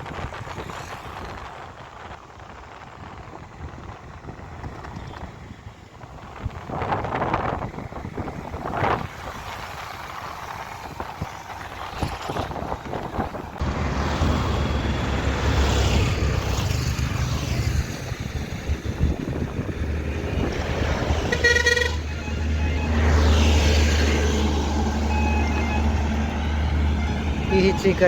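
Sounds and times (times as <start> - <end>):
highway traffic: 0.0 - 28.0
wind buffeting microphone: 0.0 - 28.0.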